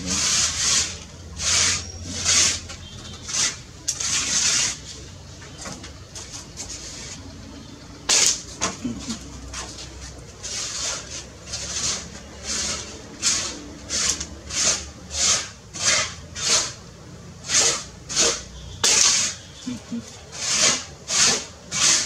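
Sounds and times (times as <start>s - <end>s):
rhythmic rasping strokes: 0.0s - 22.0s.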